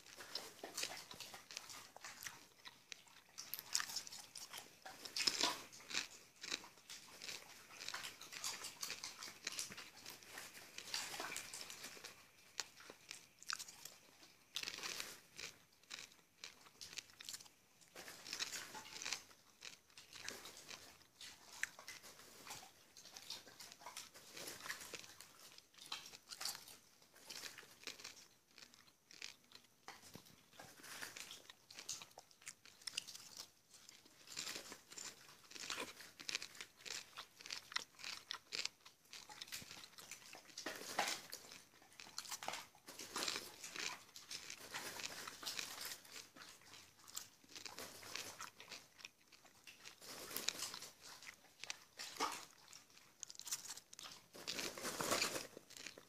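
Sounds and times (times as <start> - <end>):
popcorn being chewed: 0.0 - 56.0.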